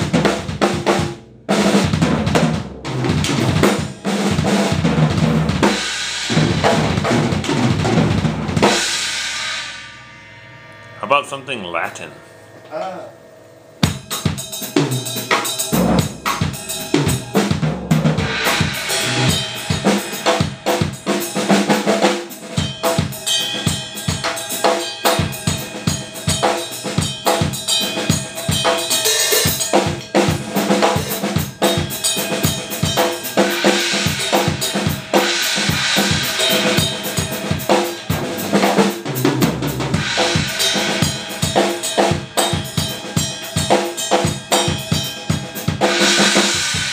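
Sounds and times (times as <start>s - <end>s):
drum kit latin groove: 0.0s - 9.6s, 13.8s - 46.9s
bright cymbals: 5.6s - 8.0s, 8.6s - 46.9s.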